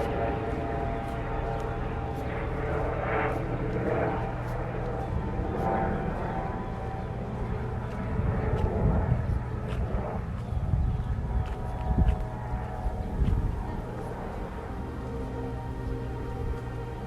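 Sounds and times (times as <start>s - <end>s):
distant aircraft engine drone: 0.0s - 17.0s.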